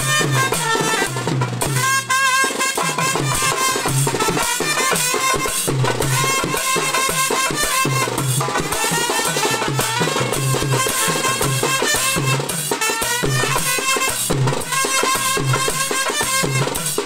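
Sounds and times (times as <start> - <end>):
drum beat: 0.0 - 17.0
trumpets playing a tune: 0.0 - 17.0.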